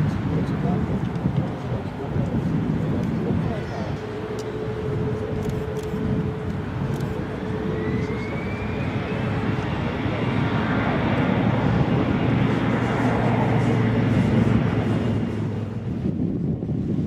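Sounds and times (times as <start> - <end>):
jet engine whine rising: 0.0 - 17.0
jet engines rumbling: 0.0 - 17.0.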